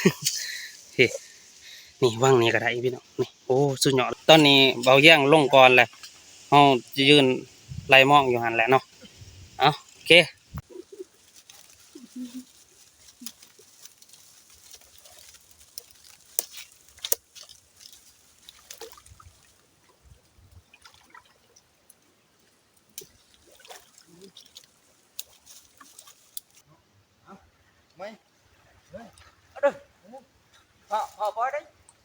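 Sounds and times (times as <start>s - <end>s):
water splashing and trickling: 0.0s - 26.7s, 27.9s - 32.0s.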